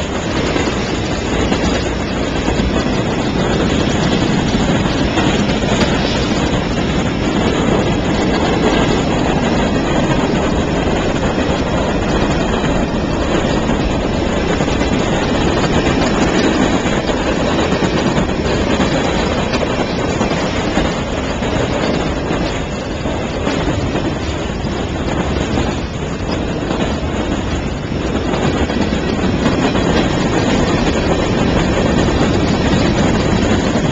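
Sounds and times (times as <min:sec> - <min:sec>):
freight train cars rolling past: 0:00.0 - 0:33.9
steel wheels on rail: 0:00.0 - 0:33.9.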